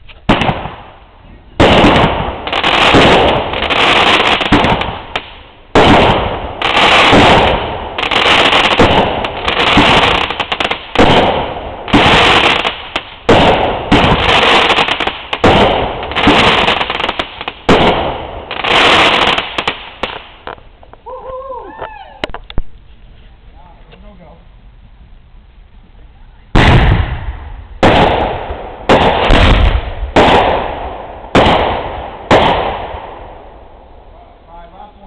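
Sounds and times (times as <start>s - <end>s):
fireworks bangs and crackling: 0.0s - 21.0s, 26.5s - 33.8s.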